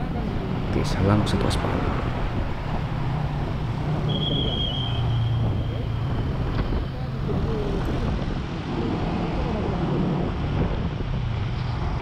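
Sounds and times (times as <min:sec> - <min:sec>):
hum of traffic: 0:00.0 - 0:12.0.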